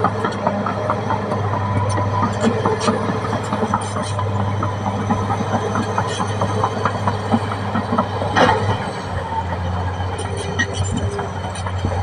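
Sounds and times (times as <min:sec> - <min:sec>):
bulldozer diesel engine drone: 0:00.0 - 0:12.0
steel tracks clanking: 0:00.0 - 0:12.0.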